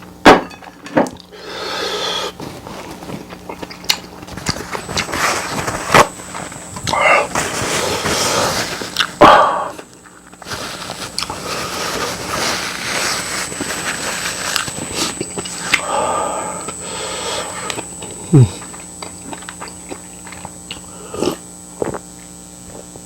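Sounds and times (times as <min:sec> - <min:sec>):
person chewing and slurping: 0:01.2 - 0:05.2, 0:05.9 - 0:10.5, 0:11.1 - 0:12.8, 0:13.5 - 0:22.1.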